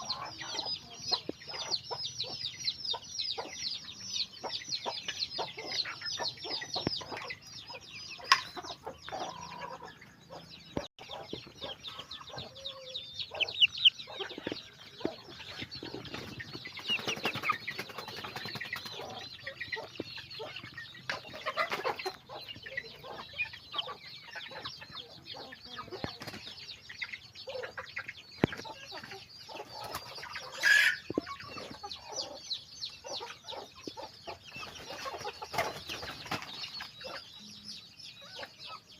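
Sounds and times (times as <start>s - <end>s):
hens clucking: 0.0s - 37.5s
chicks peeping: 0.0s - 38.9s.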